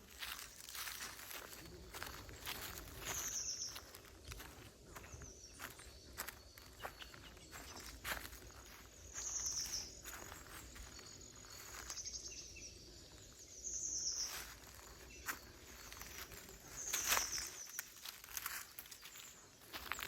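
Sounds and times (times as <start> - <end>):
footsteps crunching dry leaves: 0.0 - 20.0.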